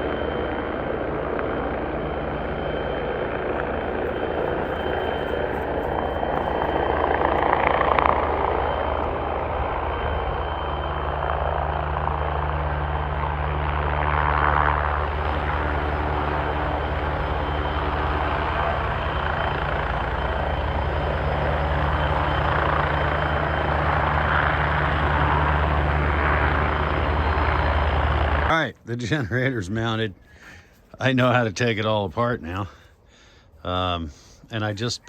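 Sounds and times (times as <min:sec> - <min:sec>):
generator engine humming: 0:01.2 - 0:35.0.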